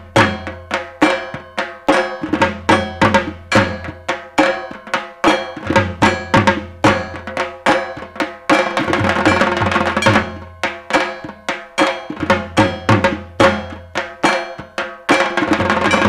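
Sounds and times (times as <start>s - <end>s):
barrel drum beaten with sticks: 0.0s - 16.0s.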